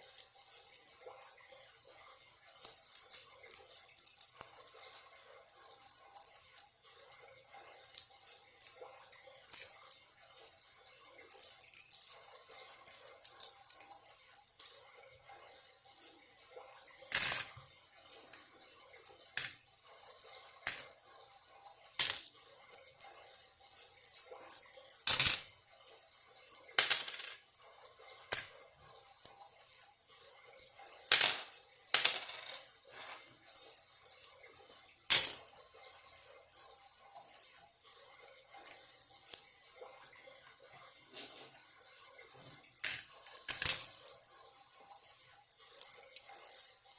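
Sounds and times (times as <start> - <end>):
coins clinking: 0.0 - 14.9, 16.8 - 21.0, 22.0 - 23.1, 23.8 - 27.6, 28.3 - 29.9, 30.6 - 39.8, 41.8 - 46.8.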